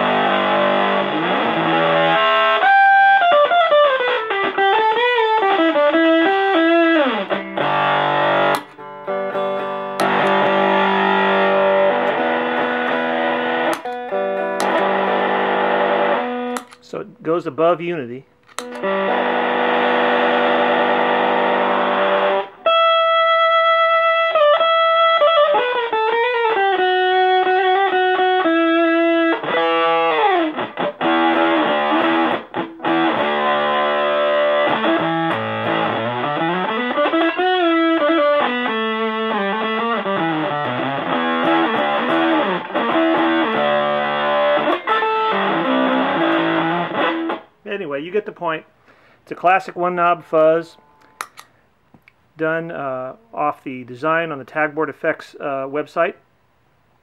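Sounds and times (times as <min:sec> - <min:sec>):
fuzzed electric guitar: 0:00.0 - 0:17.0, 0:18.5 - 0:49.1.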